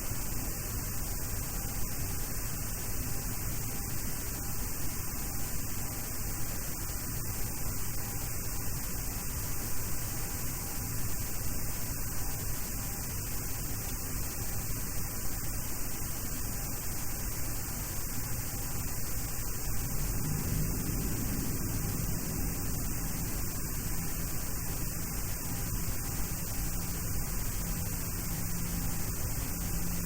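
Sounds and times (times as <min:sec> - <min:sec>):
cockpit hiss and hum: 0:00.0 - 0:30.0.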